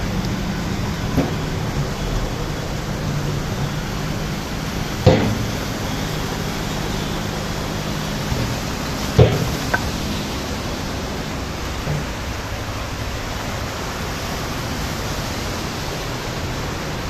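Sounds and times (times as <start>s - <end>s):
floodwater rushing: 0.0s - 17.0s
vehicle engines humming: 0.0s - 17.0s.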